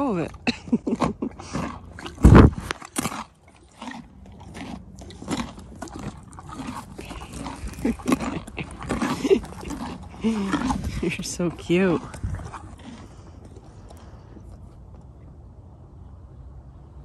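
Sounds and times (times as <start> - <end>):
horse crunching a carrot: 0.0 - 15.2.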